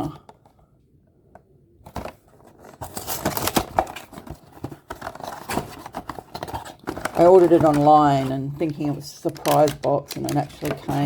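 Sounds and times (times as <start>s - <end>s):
packaging crackling and rustling: 1.8s - 11.0s.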